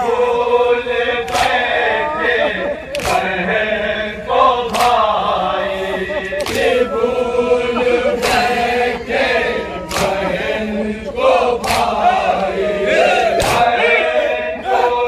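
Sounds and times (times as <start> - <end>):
male voices chanting in chorus: 0.0 - 15.0.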